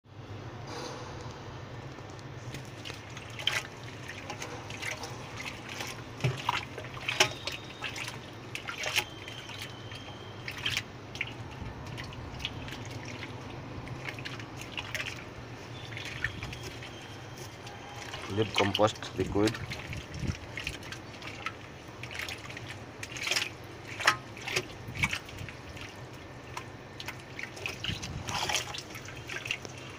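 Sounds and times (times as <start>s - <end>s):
liquid sloshing in a bucket: 2.4s - 29.9s.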